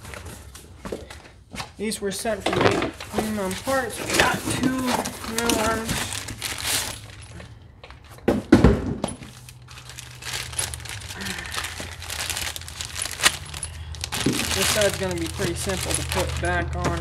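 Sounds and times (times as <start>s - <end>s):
cardboard and plastic crinkling: 2.3s - 17.0s.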